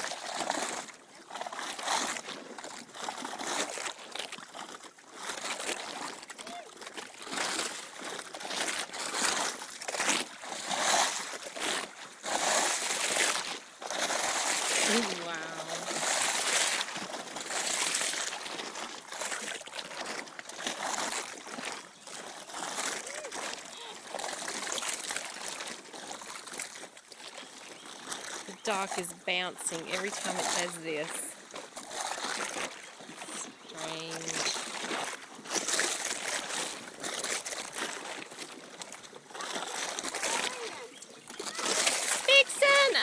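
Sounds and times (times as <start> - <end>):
water sloshing under dock: 0.0 - 43.0.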